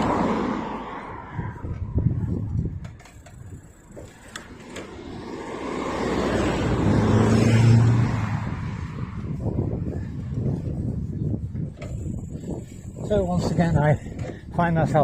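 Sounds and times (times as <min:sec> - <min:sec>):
motor vehicle passing: 0:00.0 - 0:14.5
wind buffeting microphone: 0:00.0 - 0:15.0.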